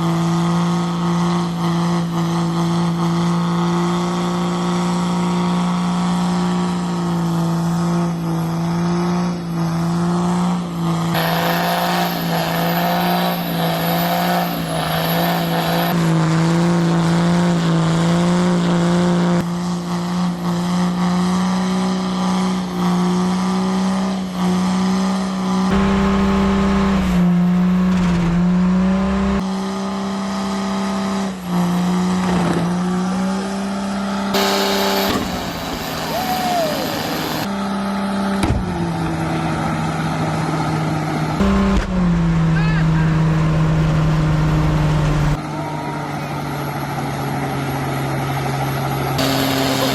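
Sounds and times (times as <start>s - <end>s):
car engine at high revs: 0.0s - 49.9s.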